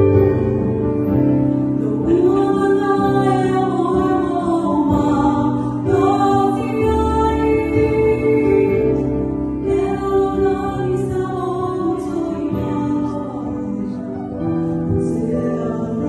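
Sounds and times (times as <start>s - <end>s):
choir singing in harmony: 1.8s - 16.0s.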